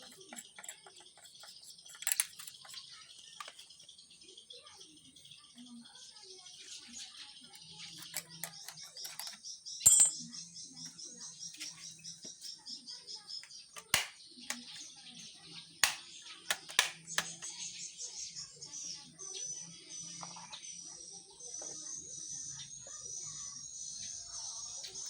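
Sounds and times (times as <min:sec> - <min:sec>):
high-pitched bird chirping: 0:00.0 - 0:25.0.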